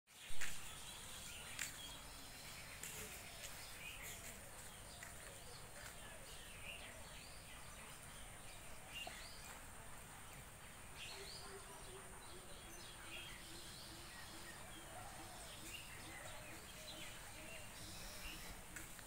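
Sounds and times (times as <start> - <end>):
faint outdoor hiss: 0.1 - 19.0
bird chirps and calls: 0.2 - 19.0.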